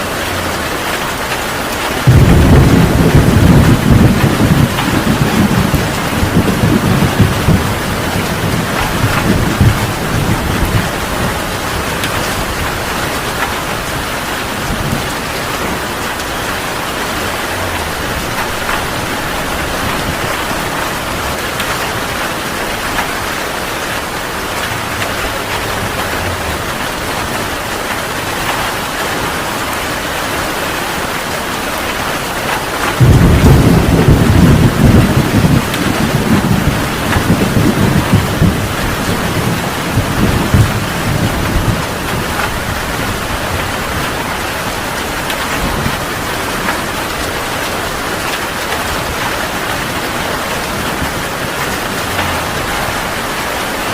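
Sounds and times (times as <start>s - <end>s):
heavy rain falling: 0.0s - 53.9s
deep rumble of thunder: 1.8s - 29.0s, 32.7s - 53.9s.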